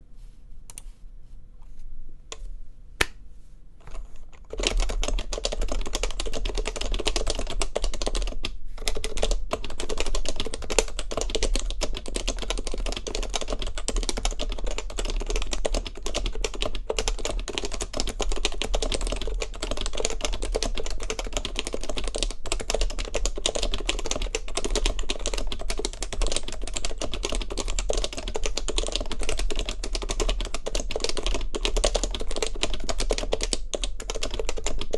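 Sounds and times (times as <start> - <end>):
fast keyboard typing: 3.8 - 34.9.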